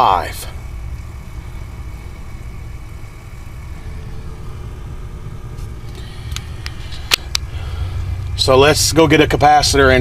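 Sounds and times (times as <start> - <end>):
low mechanical rumble: 0.0 - 10.0.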